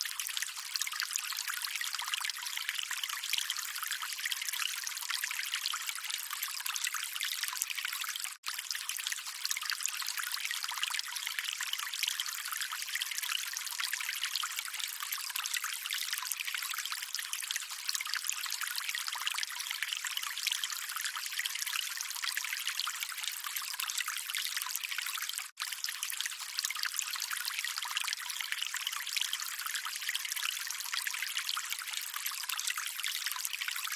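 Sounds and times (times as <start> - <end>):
calm running water: 0.0 - 33.9.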